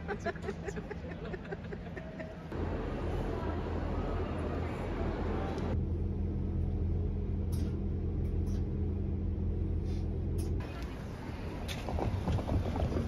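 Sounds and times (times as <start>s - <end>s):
outdoor noise: 0.0s - 13.0s
moving train rumble inside carriage: 2.5s - 13.0s.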